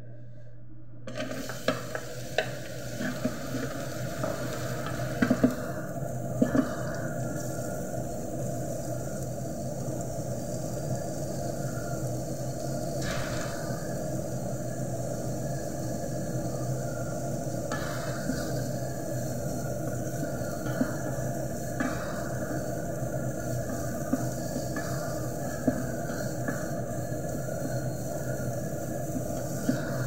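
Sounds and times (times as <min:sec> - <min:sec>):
carrots sizzling in hot oil: 0:01.2 - 0:30.0.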